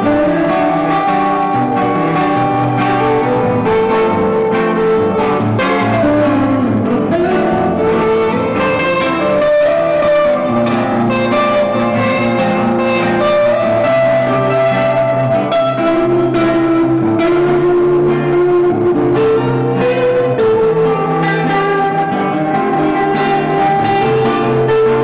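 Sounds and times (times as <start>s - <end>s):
instrumental guitar music: 0.0s - 25.0s.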